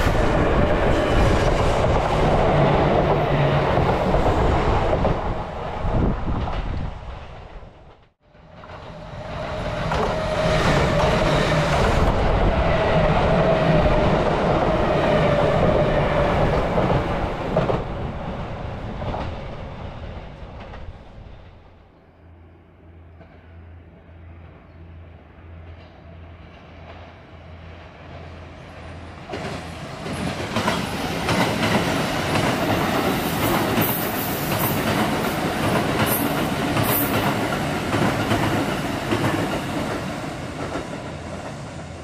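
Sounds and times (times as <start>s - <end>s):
electric train passing: 0.0s - 42.0s
wheel and rail noise: 0.0s - 42.0s.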